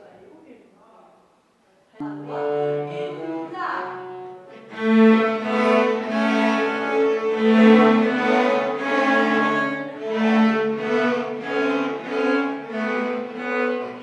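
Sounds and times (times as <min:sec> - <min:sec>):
cello and violin melody: 0:02.0 - 0:14.0.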